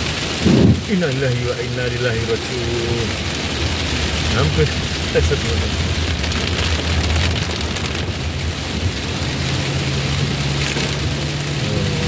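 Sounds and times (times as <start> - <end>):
engine and road hum: 0.0 - 12.0
heavy rain on vehicle roof: 0.0 - 12.0.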